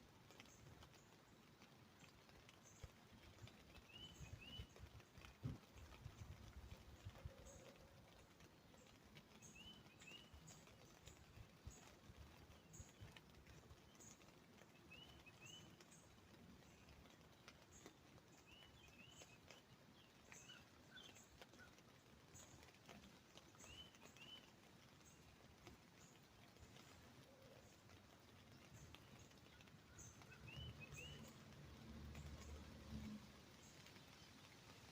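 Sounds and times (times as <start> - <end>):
background hiss: 0.0 - 34.9
soft ticks: 0.0 - 34.9
bird chirping: 2.1 - 34.8.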